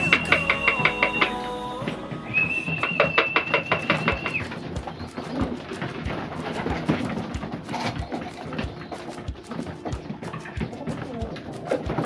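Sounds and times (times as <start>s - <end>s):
music with held high tone and beat: 0.0s - 12.0s.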